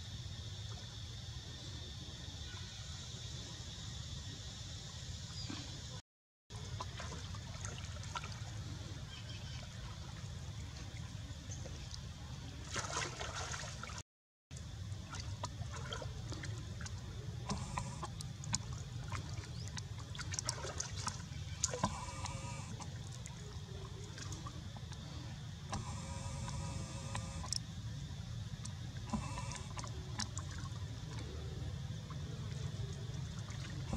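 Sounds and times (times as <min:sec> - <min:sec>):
water splashing and sloshing: 0:06.5 - 0:33.9.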